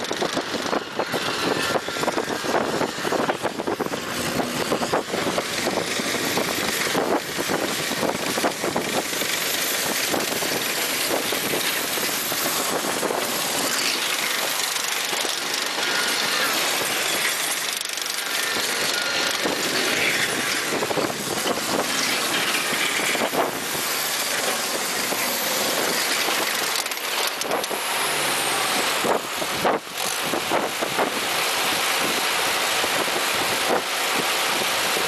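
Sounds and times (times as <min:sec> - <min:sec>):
heavy machine engine running: 0:00.0 - 0:35.0.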